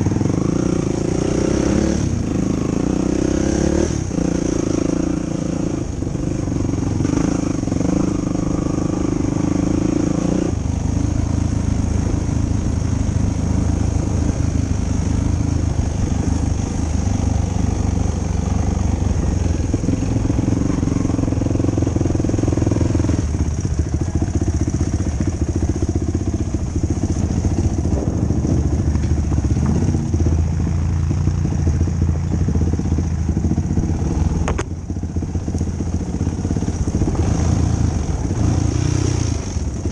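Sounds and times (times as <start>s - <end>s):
atv engine running under throttle: 0.0s - 39.9s.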